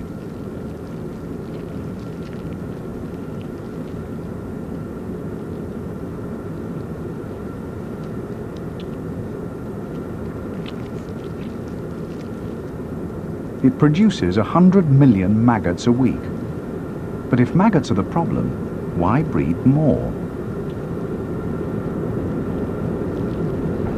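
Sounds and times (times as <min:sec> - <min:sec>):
faint high hum: 0:00.0 - 0:23.9
steady low rumble: 0:00.0 - 0:23.9.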